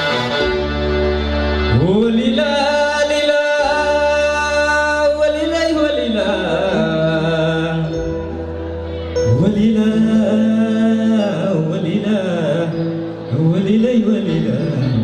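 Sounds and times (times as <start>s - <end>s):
electronic keyboard playing: 0.0s - 15.0s
man singing into microphone: 1.7s - 15.0s.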